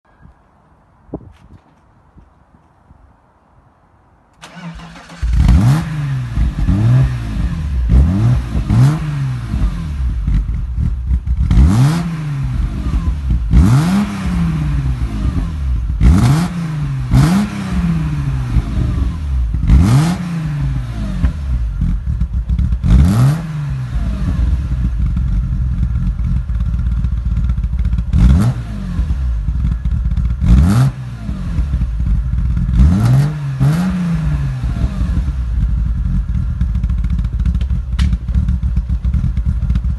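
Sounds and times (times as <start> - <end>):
exhaust cracks: 4.4 - 39.9.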